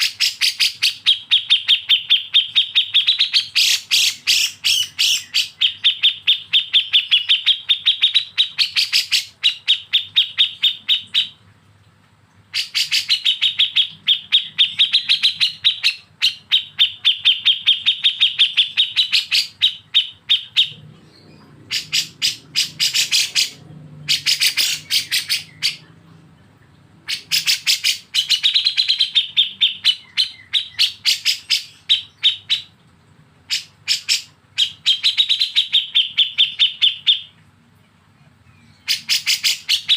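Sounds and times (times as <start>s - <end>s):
bird chirping rapidly: 0.0s - 11.4s, 12.5s - 25.9s, 27.1s - 32.8s, 33.5s - 37.4s, 38.6s - 39.9s.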